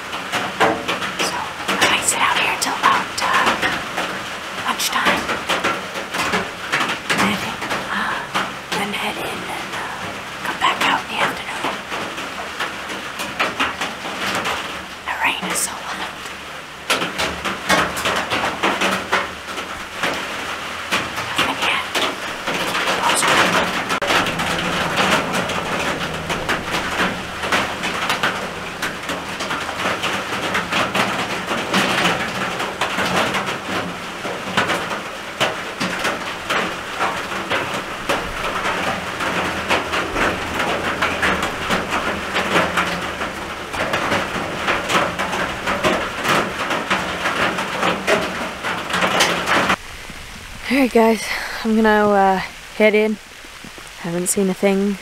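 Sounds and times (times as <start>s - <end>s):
rain on a wooden roof: 0.0s - 55.0s.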